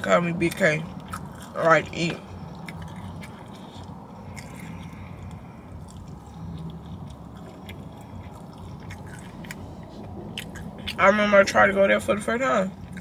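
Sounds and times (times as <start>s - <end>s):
close-up chewing: 0.0s - 13.0s
steady low hum: 0.0s - 13.0s
mouth clicks and smacks: 0.4s - 11.0s.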